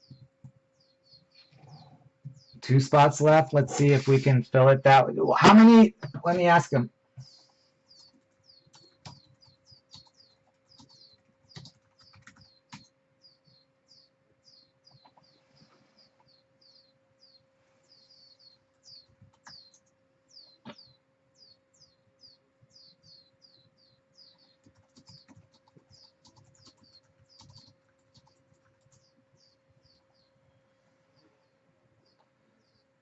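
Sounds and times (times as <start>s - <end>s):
small bird chirping: 0.0s - 3.0s, 7.2s - 33.0s
faint steady hum: 0.0s - 33.0s.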